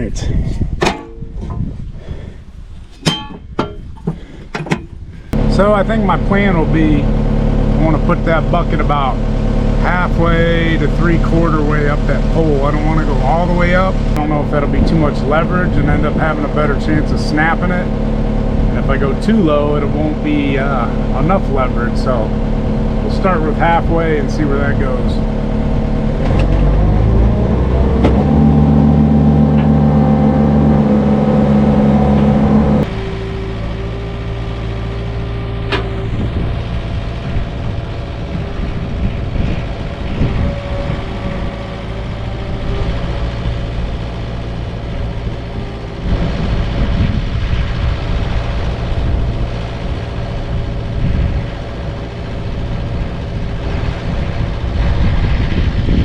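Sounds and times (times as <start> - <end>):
excavator diesel engine running: 5.3 - 56.0.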